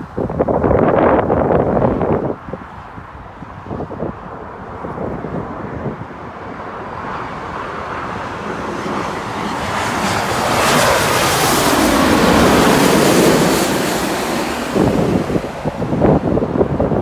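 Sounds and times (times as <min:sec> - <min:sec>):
jet engines roaring overhead: 0:00.0 - 0:17.0
wind buffeting microphone: 0:00.0 - 0:17.0.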